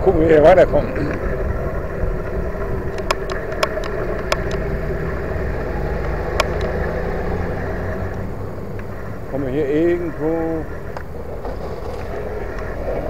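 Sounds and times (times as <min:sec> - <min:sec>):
sharp clicks and rattles: 0:00.0 - 0:13.0
wind and tyre rumble: 0:00.0 - 0:13.0.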